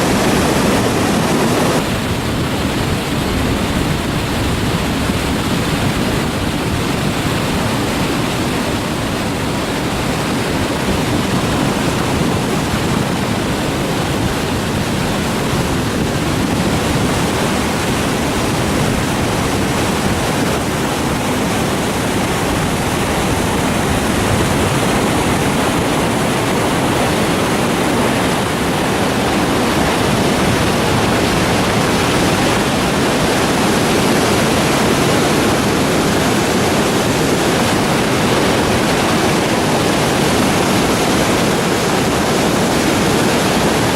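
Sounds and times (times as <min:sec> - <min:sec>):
river rapids rushing: 0:00.0 - 0:43.9.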